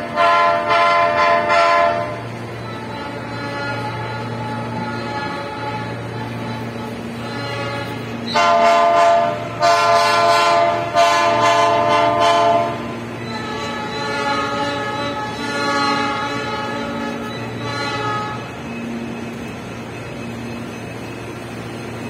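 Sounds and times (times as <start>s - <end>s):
train horn blasts: 0.0s - 19.4s
soft horn tones: 0.1s - 18.6s.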